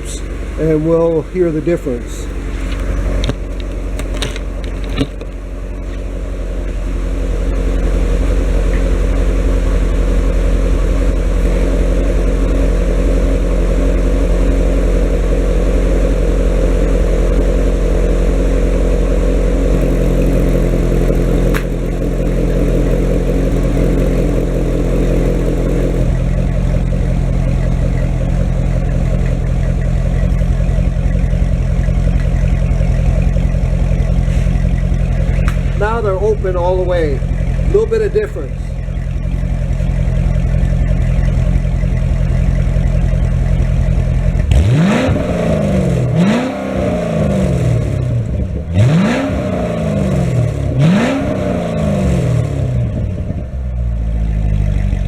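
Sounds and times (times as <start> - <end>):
car exhaust idling: 0.0 - 55.0.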